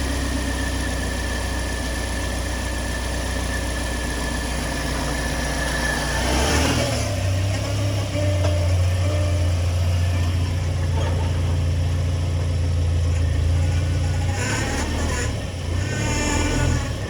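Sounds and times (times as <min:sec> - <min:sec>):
car engine low drone: 0:00.0 - 0:17.0.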